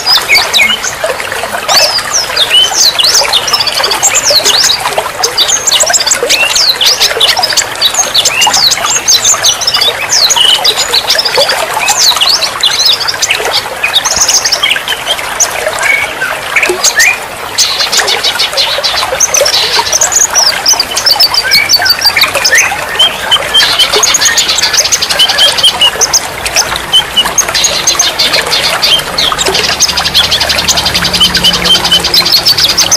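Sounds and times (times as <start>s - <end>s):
songbirds singing: 0.0s - 32.9s.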